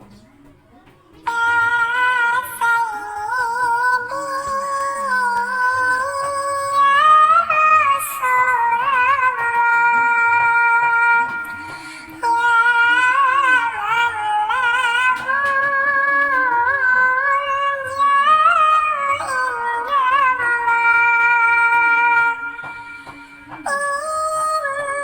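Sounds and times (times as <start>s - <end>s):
person singing high melody: 1.3s - 25.0s.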